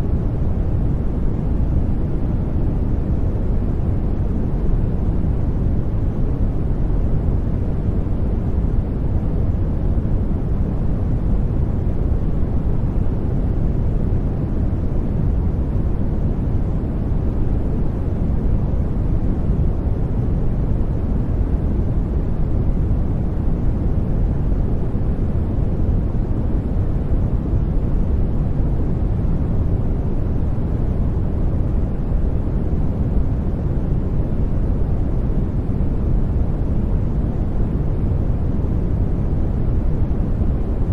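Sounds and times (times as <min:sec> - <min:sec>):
deep steady noise rush: 0:00.0 - 0:40.9.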